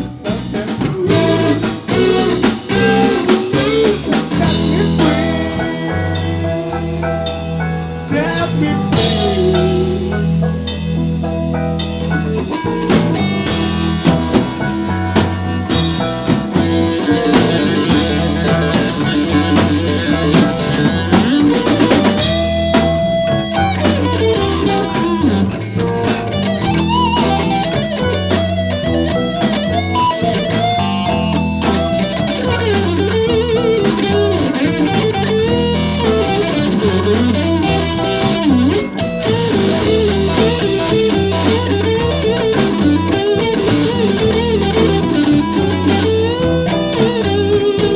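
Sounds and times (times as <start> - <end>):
bass line: 0.0 - 47.9
blues guitar lead: 0.0 - 47.9
drum kit: 0.0 - 47.9.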